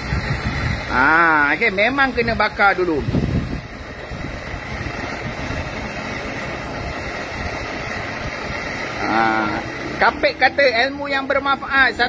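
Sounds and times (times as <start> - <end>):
gas torch burning: 0.0 - 12.0.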